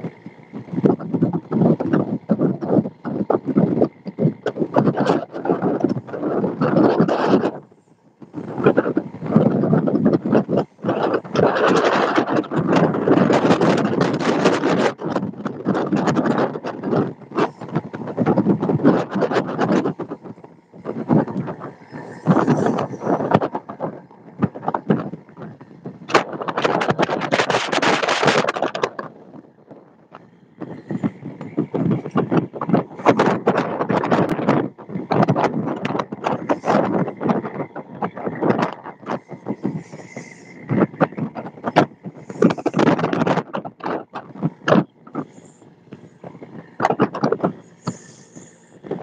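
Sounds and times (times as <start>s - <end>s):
boat wake rushing: 0.0s - 49.0s
water splashing along hull: 0.0s - 49.0s
wind buffeting microphone: 0.0s - 49.0s.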